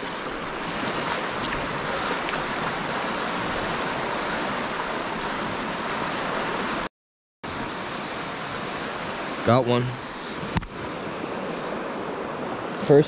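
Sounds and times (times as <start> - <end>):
river rushing: 0.0 - 6.9, 7.5 - 13.0.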